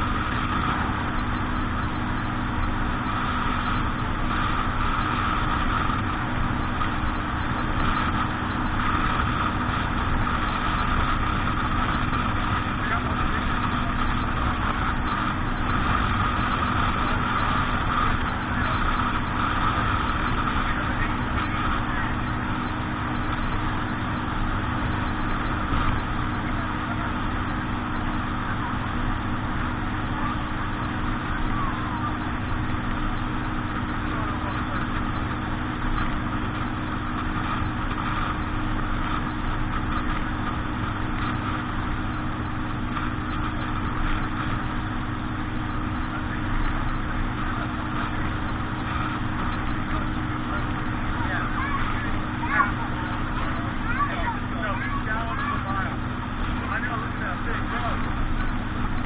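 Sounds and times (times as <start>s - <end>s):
boat engine running: 0.0s - 59.0s
constant rushing noise: 0.0s - 59.0s.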